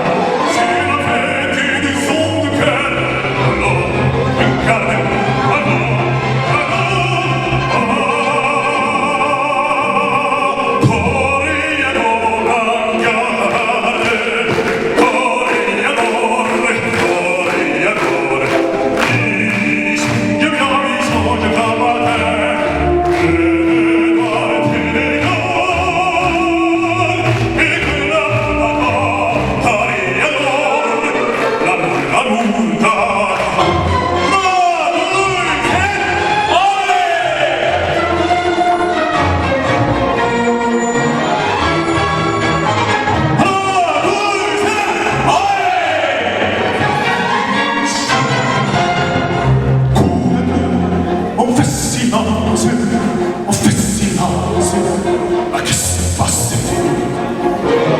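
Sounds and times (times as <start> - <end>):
instrumental accompaniment: 0.0 - 57.9
operatic singing: 0.0 - 57.9.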